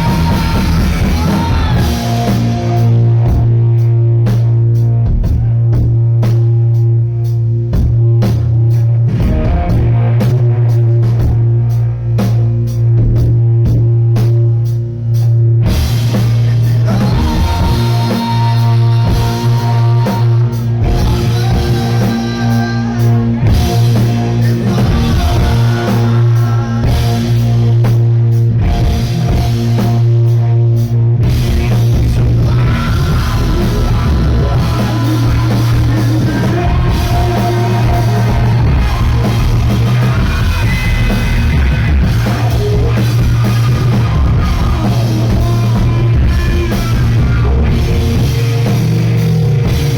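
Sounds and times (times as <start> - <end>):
overdriven electric guitars: 0.0 - 13.9, 15.1 - 49.9
bass guitar: 0.0 - 49.9
drum kit: 0.0 - 49.9.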